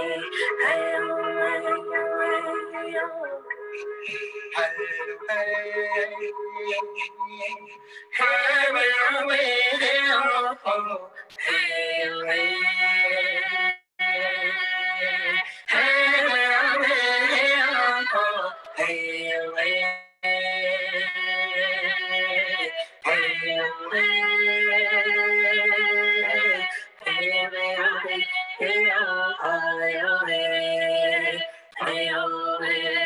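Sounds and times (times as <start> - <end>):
person singing wordless vocables: 0.0 - 33.0.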